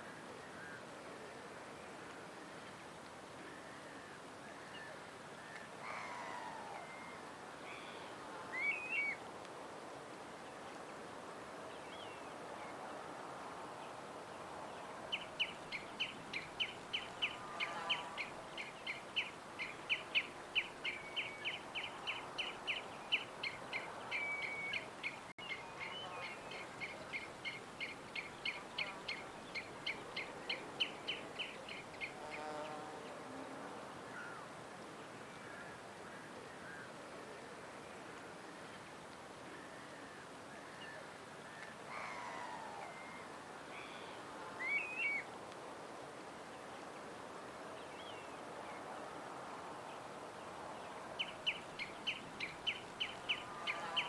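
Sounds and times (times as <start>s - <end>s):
faint outdoor hiss: 0.0s - 54.0s.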